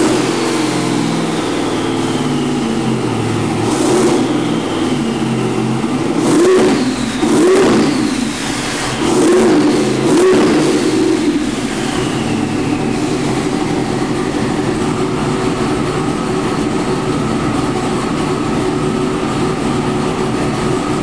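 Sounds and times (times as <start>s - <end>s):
engine running on dyno: 0.0s - 21.0s
high whine: 0.0s - 21.0s.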